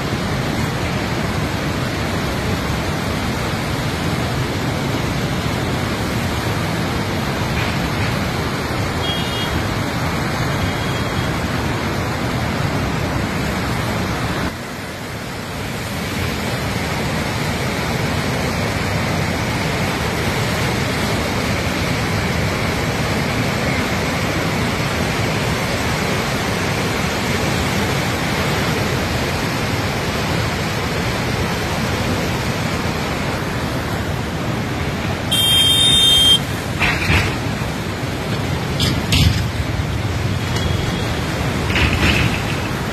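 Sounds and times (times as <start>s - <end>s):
river rushing roar: 0.0s - 42.9s.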